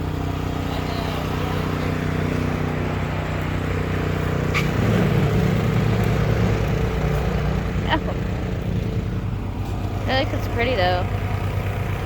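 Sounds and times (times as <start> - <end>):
machine engine humming: 0.0 - 12.0.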